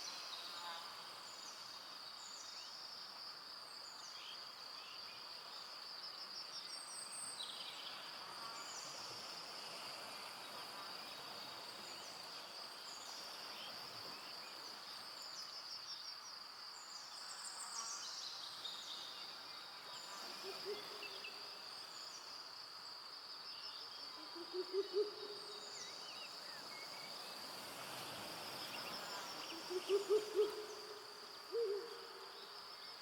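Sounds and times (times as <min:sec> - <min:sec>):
insects chorus: 0:00.0 - 0:33.0.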